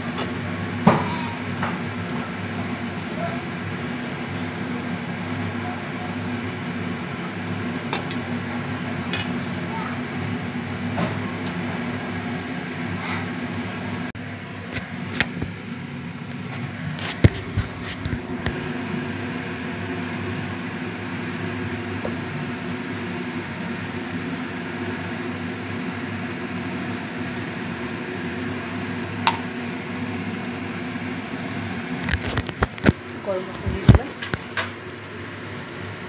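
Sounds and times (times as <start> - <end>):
curry bubbling on a burner: 0.0 - 36.0.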